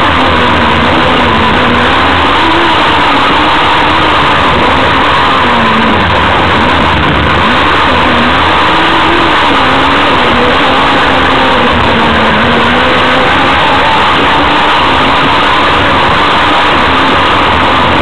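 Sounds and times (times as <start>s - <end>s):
vehicle engine running: 0.0s - 18.0s
wind and road noise: 0.0s - 18.0s.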